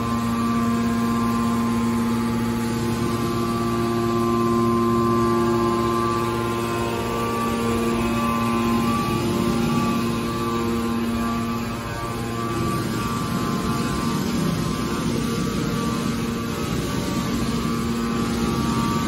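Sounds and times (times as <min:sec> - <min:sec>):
hydraulic baler hum with whine: 0:00.0 - 0:19.0.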